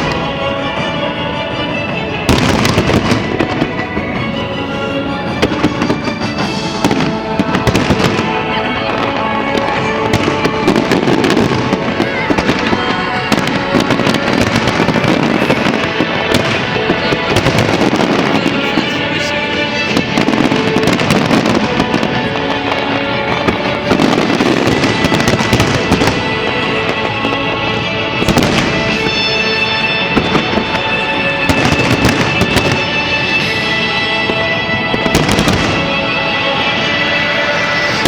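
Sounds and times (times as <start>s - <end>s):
fireworks cracking and banging: 0.0s - 38.0s
loud music: 0.0s - 38.0s.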